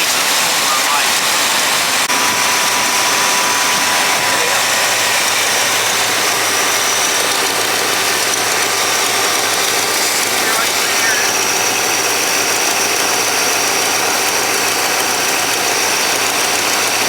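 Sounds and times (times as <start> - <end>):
engine idling: 0.0 - 17.0
exhaust leak popping: 0.0 - 17.0.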